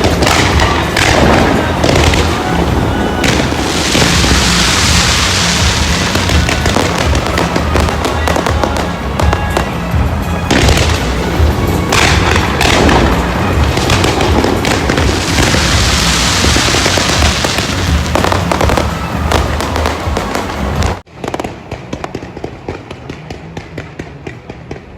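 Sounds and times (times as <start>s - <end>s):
music with pulsing bass: 0.0s - 21.0s
fireworks bursting and crackling: 0.0s - 24.9s.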